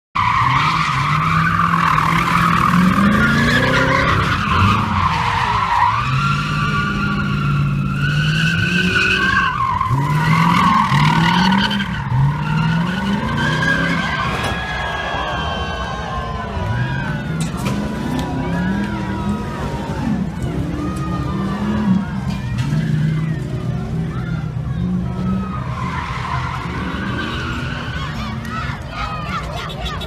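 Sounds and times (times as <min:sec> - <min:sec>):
car engine revving: 0:00.2 - 0:28.6
tires squealing: 0:00.2 - 0:30.0.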